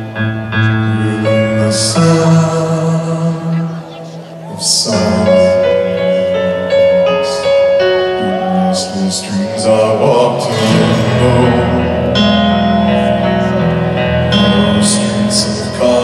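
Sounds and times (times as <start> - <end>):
man singing a slow ballad: 0.0 - 16.0
piano accompaniment: 0.0 - 16.0.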